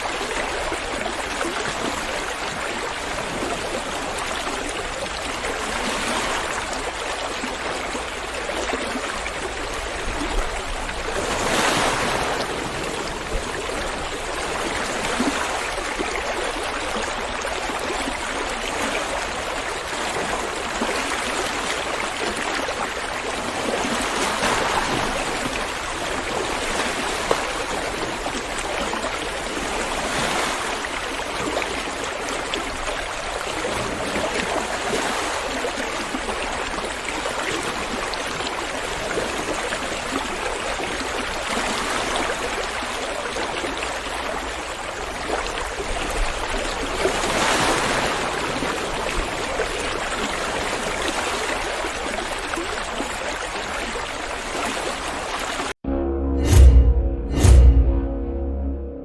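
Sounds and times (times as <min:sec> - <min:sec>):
river water flowing: 0:00.0 - 0:58.4.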